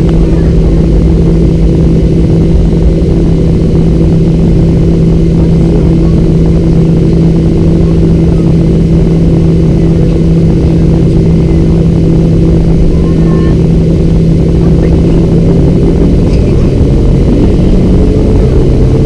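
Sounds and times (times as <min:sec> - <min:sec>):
jet engines idling: 0:00.0 - 0:19.0.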